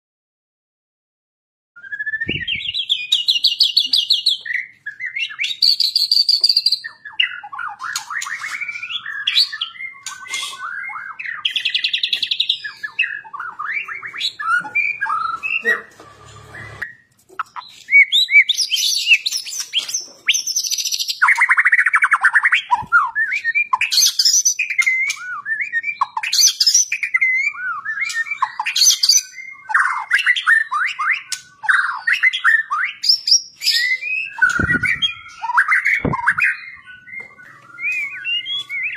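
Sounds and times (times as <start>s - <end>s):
songbird singing loudly: 1.8s - 17.0s, 17.7s - 38.9s.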